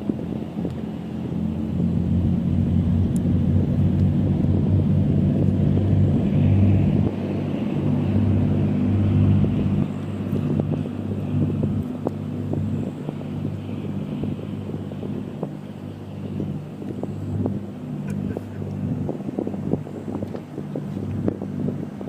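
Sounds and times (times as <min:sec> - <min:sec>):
boat diesel engines droning: 0:00.0 - 0:22.0.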